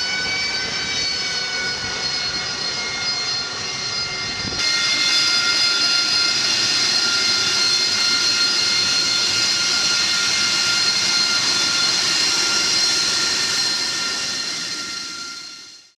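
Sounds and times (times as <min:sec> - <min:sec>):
rushing roar of exhaust: 0:00.0 - 0:15.7
jet engine whine: 0:00.0 - 0:16.0.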